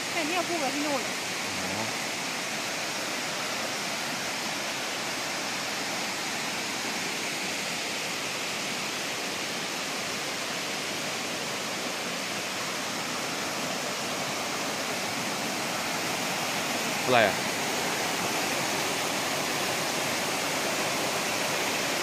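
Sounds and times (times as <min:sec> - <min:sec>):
stream water rushing over rocks: 0:00.0 - 0:22.0.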